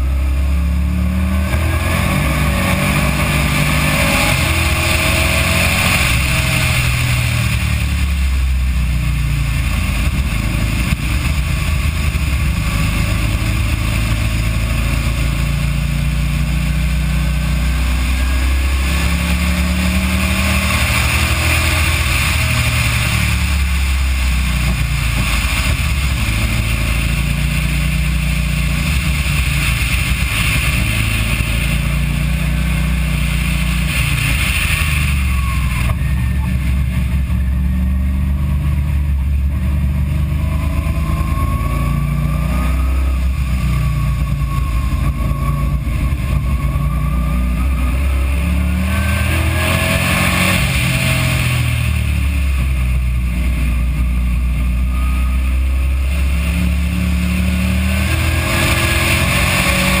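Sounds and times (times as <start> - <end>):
race car engine: 0.0 - 60.0
road and wind noise: 0.0 - 60.0.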